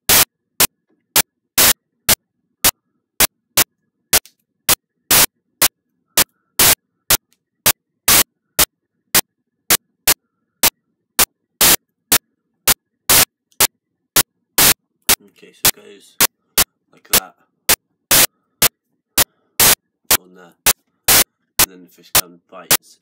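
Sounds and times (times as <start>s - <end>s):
static hiss bursts: 0.0s - 23.0s.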